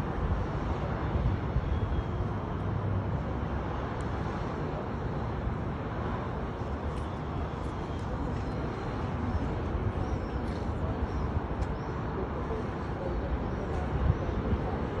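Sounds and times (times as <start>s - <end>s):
distant traffic noise: 0.0s - 15.0s.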